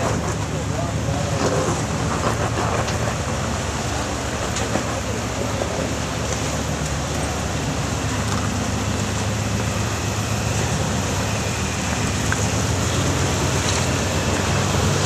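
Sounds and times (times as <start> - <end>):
engine running at low revs: 0.0 - 15.0
rushing noise: 0.0 - 15.0.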